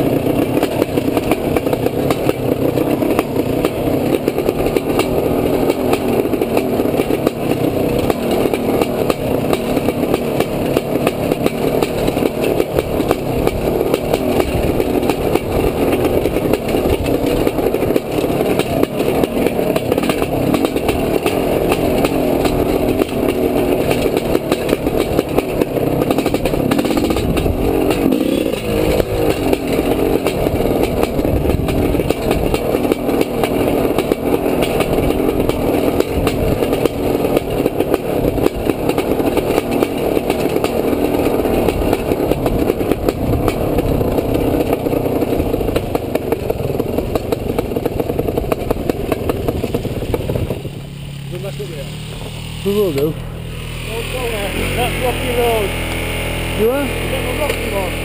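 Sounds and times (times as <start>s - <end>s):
bike rattling over stones: 0.0s - 58.0s
dirt bike engine running: 0.0s - 58.0s.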